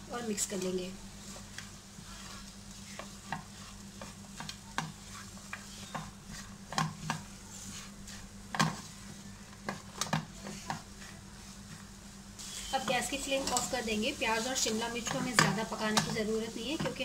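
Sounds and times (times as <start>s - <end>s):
food sizzling in a frying pan: 0.0s - 17.0s
spatula scraping and tapping a pan: 0.6s - 11.8s, 12.8s - 13.8s, 14.5s - 17.0s.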